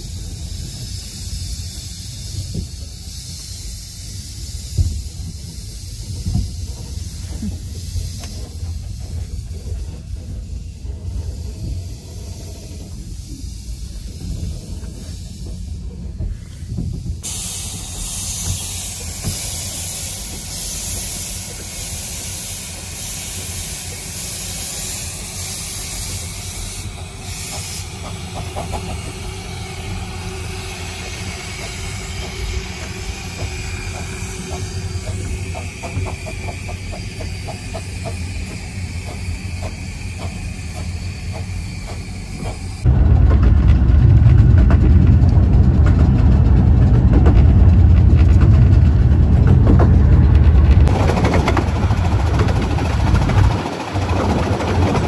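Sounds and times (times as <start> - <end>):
steam locomotive hissing: 0.0 - 43.0, 50.0 - 55.0
train running rumble: 0.0 - 55.0.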